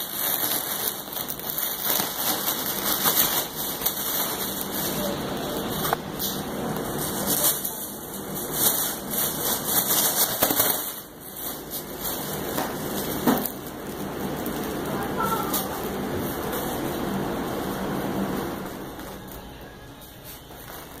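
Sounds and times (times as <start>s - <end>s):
foil balloon crinkling: 0.0s - 21.0s.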